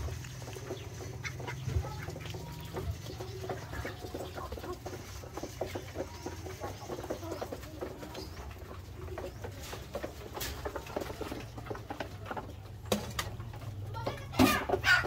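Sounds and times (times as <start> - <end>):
chickens calling: 0.0 - 15.0.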